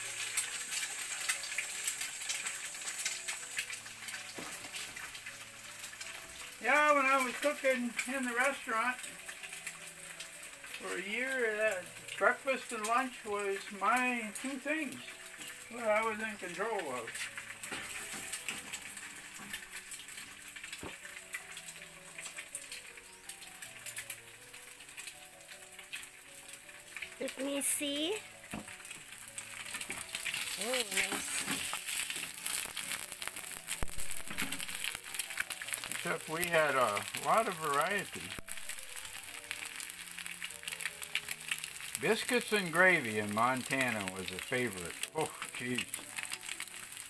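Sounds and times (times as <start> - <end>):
food sizzling in a frying pan: 0.0 - 47.0.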